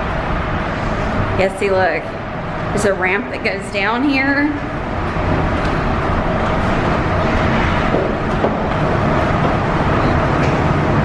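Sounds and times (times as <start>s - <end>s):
rushing air: 0.0s - 3.0s, 4.6s - 11.0s
machinery hum: 0.0s - 11.0s.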